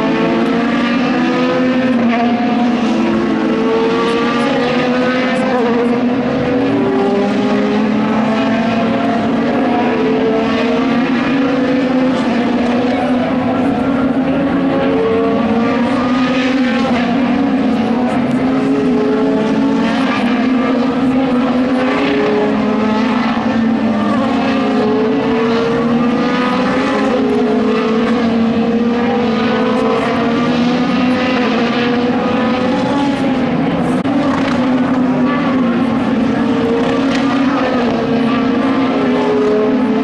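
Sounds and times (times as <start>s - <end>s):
racing engines at full throttle: 0.0s - 40.0s.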